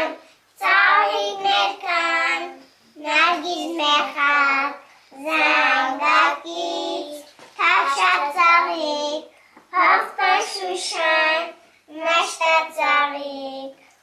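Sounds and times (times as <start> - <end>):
child singing: 0.0 - 13.8.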